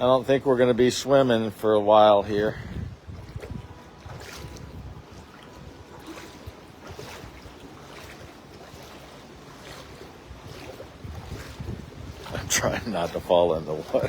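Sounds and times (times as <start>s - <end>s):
floodwater sloshing and splashing: 0.0s - 14.0s
wind rumbling on microphone: 0.0s - 14.0s.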